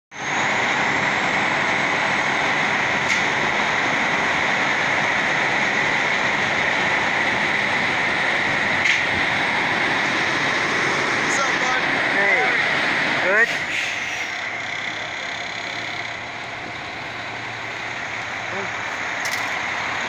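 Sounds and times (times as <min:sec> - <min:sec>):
fire engine running hiss: 0:00.1 - 0:20.0.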